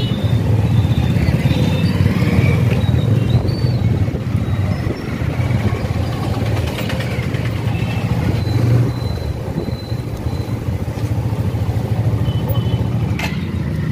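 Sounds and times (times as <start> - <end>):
motorcycle engine at low speed: 0.0 - 13.9.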